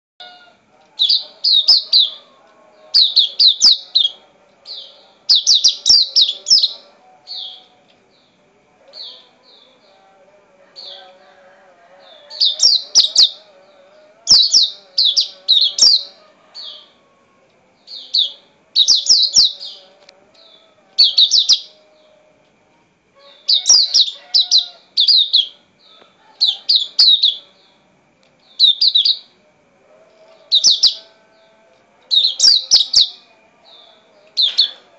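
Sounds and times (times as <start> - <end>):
songbird chirping: 0.2 - 34.9.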